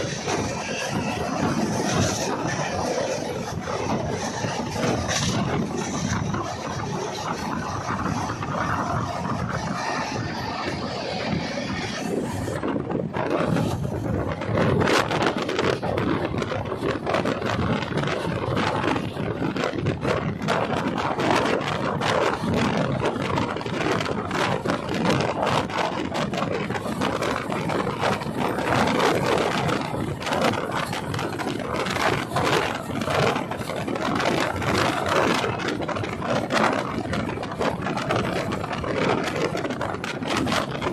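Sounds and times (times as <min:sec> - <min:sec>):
train rumbling: 0:00.0 - 0:40.9
wheels clattering on track: 0:00.0 - 0:40.9.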